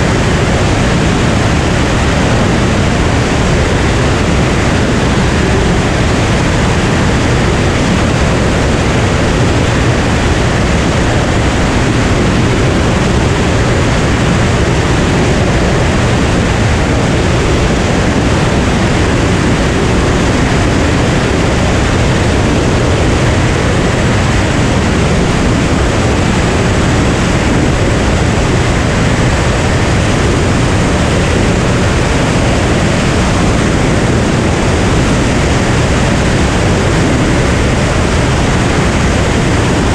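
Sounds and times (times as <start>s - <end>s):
aircraft engine and propeller drone: 0.0s - 39.9s
wind rushing on microphone: 0.0s - 39.9s.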